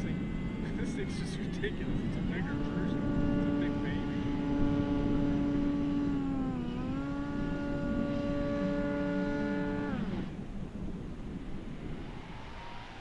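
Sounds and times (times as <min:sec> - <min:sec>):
electric motor and propeller whine: 0:00.0 - 0:13.0
low wind rumble: 0:00.0 - 0:13.0.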